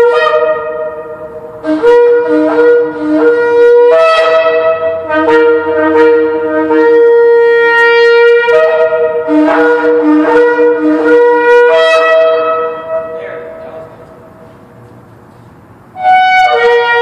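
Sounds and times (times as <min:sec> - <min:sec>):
shofars blowing long notes: 0:00.0 - 0:14.6, 0:16.0 - 0:17.0.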